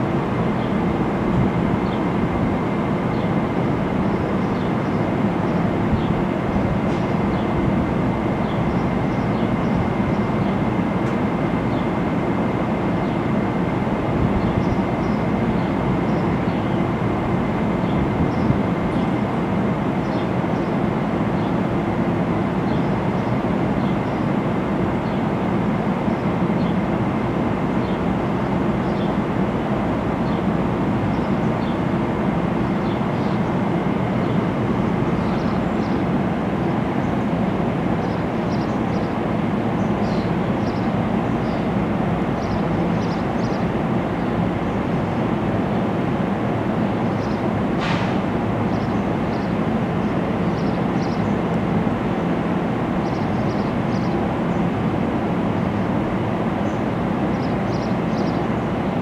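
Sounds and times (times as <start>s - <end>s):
electric train droning: 0.0s - 59.0s.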